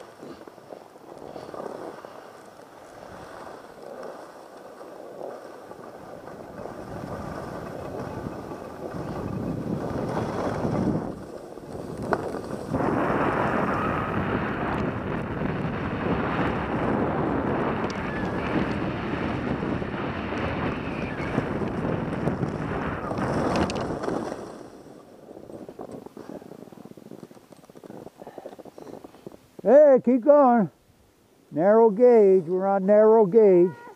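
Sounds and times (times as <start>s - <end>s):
wind rushing over microphone: 0.0s - 30.8s.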